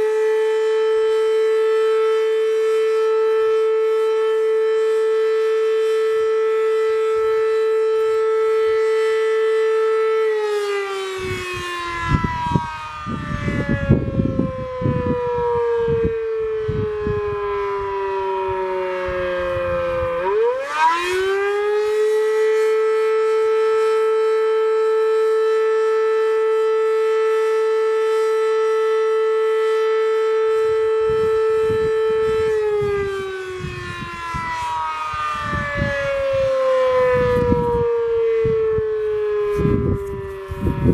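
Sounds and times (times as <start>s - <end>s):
fire siren winding up and down: 0.0s - 40.9s.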